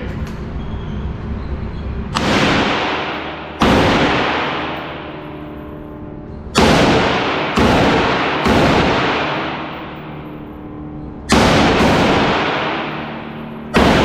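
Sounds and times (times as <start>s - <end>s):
rifle shots echoing: 2.2s - 14.0s.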